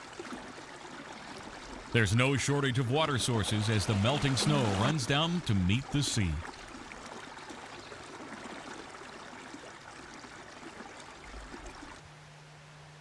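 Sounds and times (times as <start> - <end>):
creek water flowing: 0.0 - 12.3.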